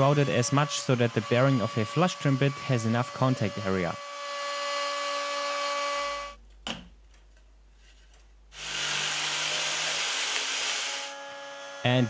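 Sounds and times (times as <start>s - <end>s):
router running: 0.0s - 6.4s, 8.6s - 12.0s.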